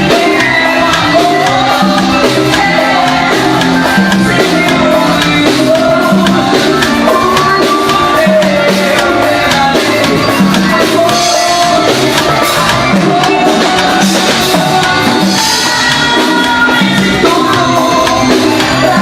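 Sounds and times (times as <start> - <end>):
bass line: 0.0 - 19.0
percussion hits: 0.0 - 19.0.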